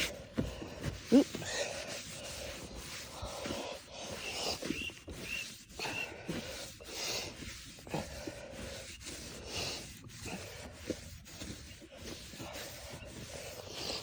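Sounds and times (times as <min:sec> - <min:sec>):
cloth rubbing plastic lens: 0:00.0 - 0:14.0.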